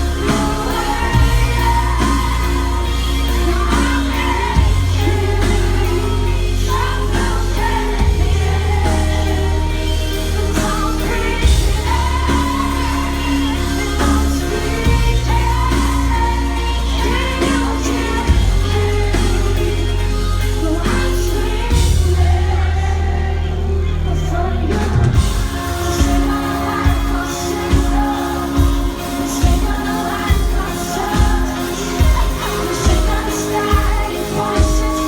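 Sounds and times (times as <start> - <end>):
steady drum beat: 0.0 - 22.8, 24.9 - 35.0
sung vocals: 0.0 - 35.0
synth bass notes: 0.0 - 35.0.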